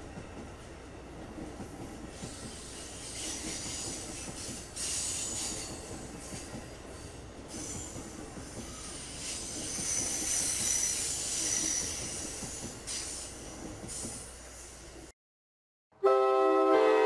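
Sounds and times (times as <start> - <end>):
train wheels rumbling on rails: 0.0 - 15.1.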